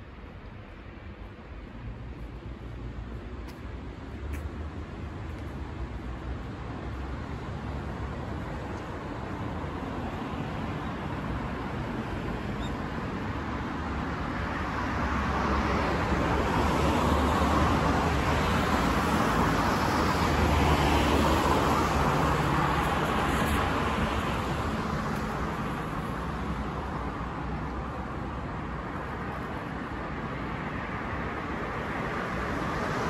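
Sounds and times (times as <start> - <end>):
steady traffic hum: 0.0 - 33.0.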